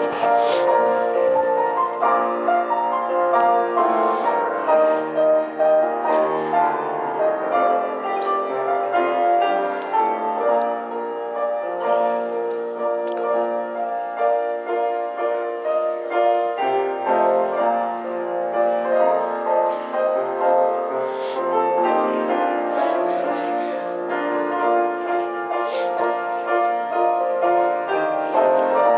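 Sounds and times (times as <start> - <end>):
slow piano music: 0.0 - 28.9.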